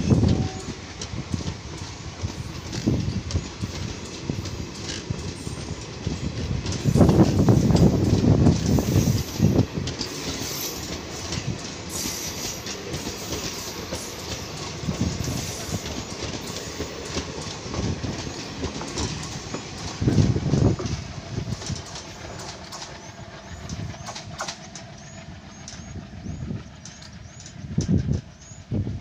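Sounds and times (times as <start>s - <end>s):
train rumble: 0.0s - 29.0s
train wheels clicking over rail joints: 0.1s - 29.0s.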